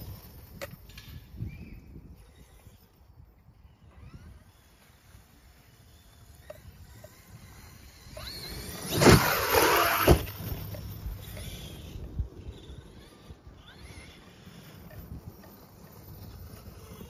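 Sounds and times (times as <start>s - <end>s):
electric motor whine: 0.0s - 17.0s
rc truck rushing over grass: 0.0s - 17.0s.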